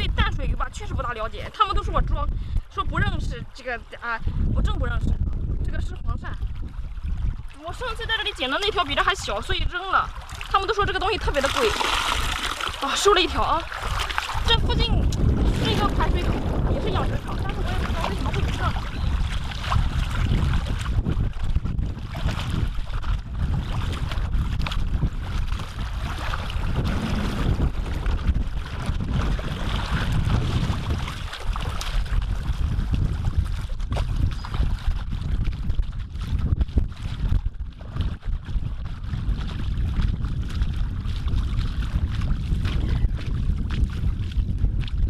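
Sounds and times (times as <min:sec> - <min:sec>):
wind buffeting microphone: 0:00.0 - 0:45.0
feet wading through shallow water: 0:05.3 - 0:45.0.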